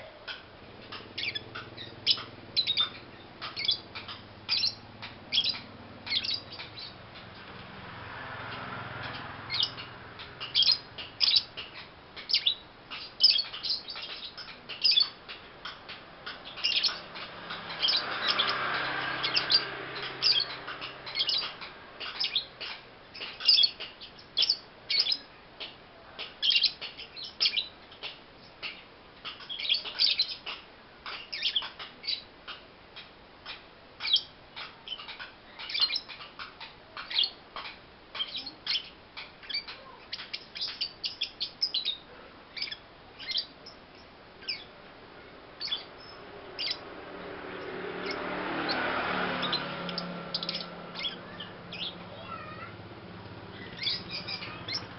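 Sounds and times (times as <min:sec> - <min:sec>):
lovebird chirping: 0:00.0 - 0:07.2, 0:09.0 - 0:25.3, 0:26.4 - 0:44.8, 0:45.6 - 0:46.9, 0:47.5 - 0:52.5, 0:53.5 - 0:54.9.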